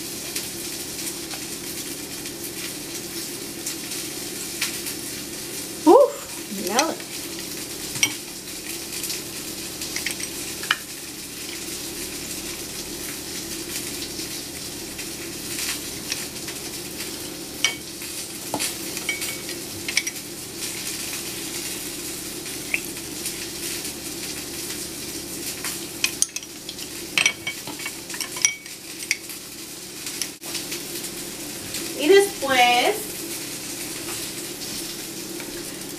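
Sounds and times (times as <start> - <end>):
steady hiss and hum: 0.0 - 35.9.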